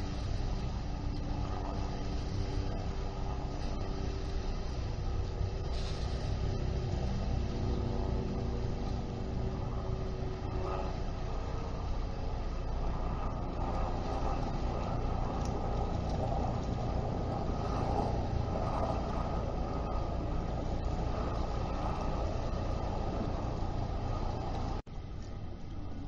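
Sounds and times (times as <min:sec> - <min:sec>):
distant engines rumbling: 0:00.0 - 0:26.0
pitched engine hum: 0:00.0 - 0:26.0.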